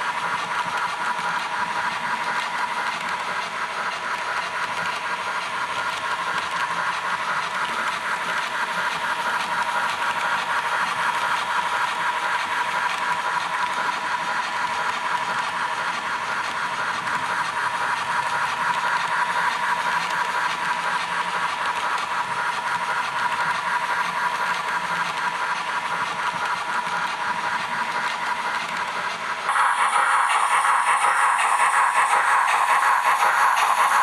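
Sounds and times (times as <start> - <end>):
model steam train sound: 0.0 - 34.0.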